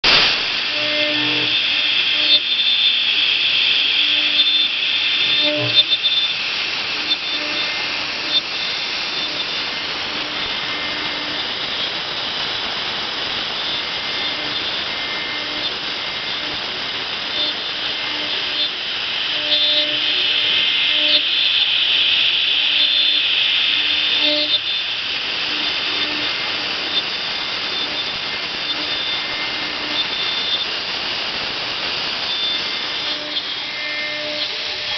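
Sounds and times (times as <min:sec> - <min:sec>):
engraving machine whining and cutting: 0:00.0 - 0:34.9.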